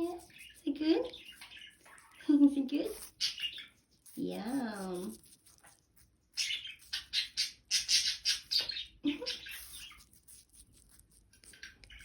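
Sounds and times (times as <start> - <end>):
parrot crunching apple: 0.2 - 4.2, 4.8 - 8.6, 9.2 - 12.0.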